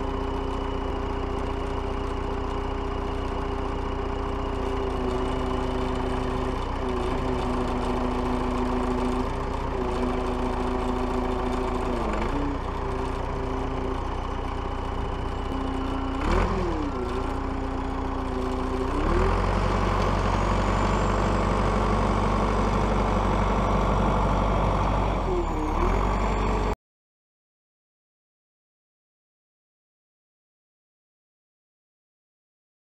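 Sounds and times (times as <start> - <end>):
diesel backhoe engine running: 0.0 - 26.8.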